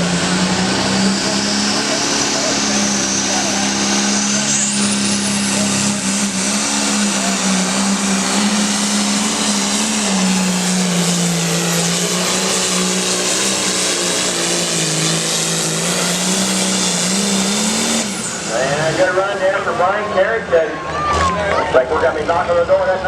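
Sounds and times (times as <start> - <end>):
diesel tractor engine under load: 0.0 - 23.0.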